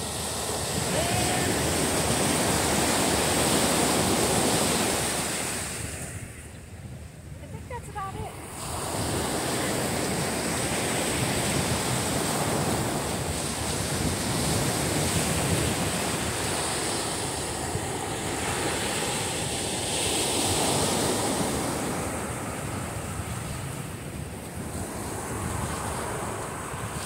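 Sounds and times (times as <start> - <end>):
ocean surf breaking: 0.0 - 6.5, 7.4 - 27.0
wind on microphone: 0.0 - 27.0.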